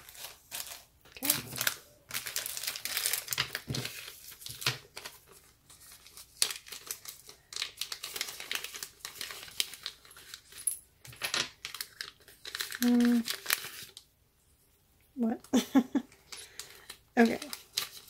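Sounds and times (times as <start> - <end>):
plastic packaging crinkling: 0.0 - 14.1, 16.3 - 18.0.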